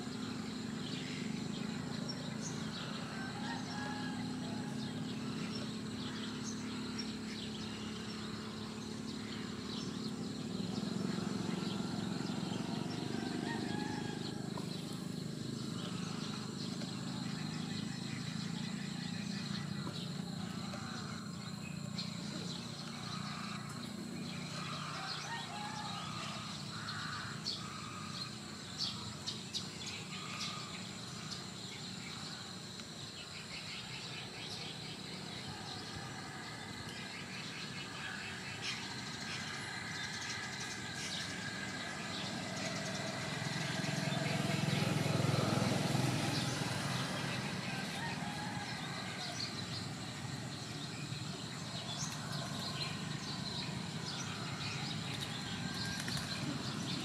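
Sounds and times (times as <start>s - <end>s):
birds chirping and calling: 0.0s - 57.0s
high insect drone: 0.0s - 57.0s.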